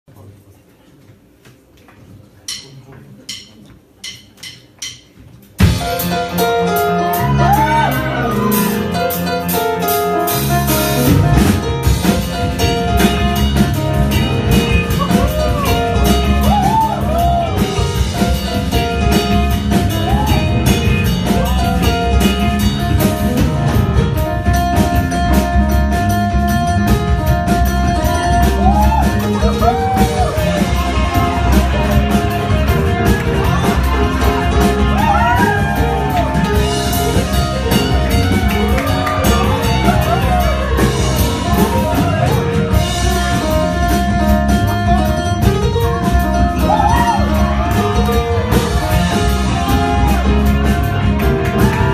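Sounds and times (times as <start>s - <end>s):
piano: 2.2s - 51.9s
drum kit beat: 2.4s - 51.9s
bass guitar: 5.6s - 51.9s.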